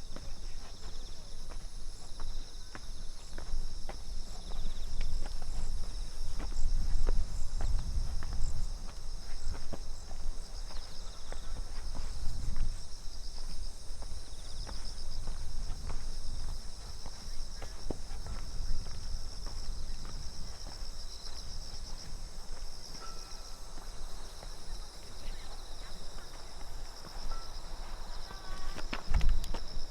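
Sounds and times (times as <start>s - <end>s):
footsteps on a path: 0.0s - 29.9s
insects trilling: 0.0s - 29.9s.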